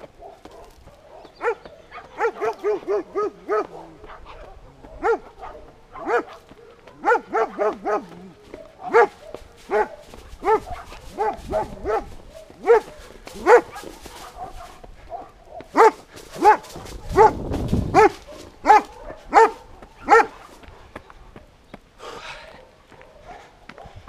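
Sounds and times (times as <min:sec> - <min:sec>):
dog barking: 0:00.0 - 0:20.6, 0:22.4 - 0:24.0.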